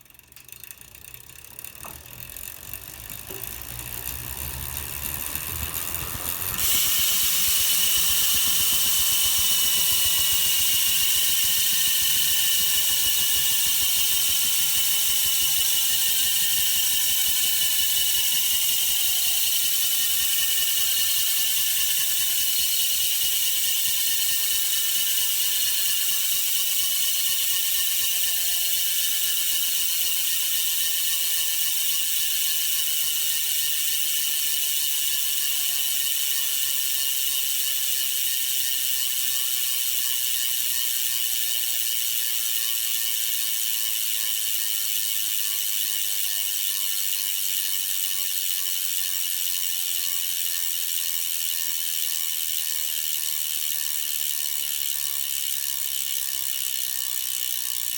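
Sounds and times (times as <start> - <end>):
bicycle freehub ratchet buzzing: 0.0 - 57.9.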